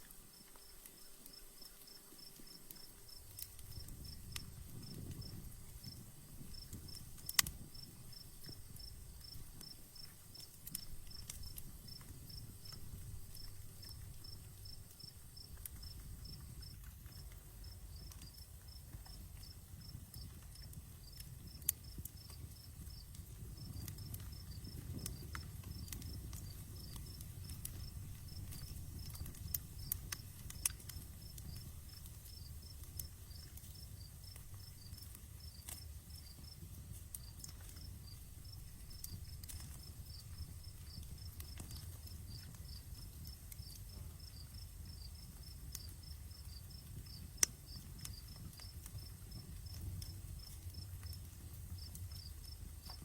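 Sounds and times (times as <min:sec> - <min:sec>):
campfire crackling and popping: 0:00.0 - 0:53.0
cricket chirping: 0:00.0 - 0:53.0.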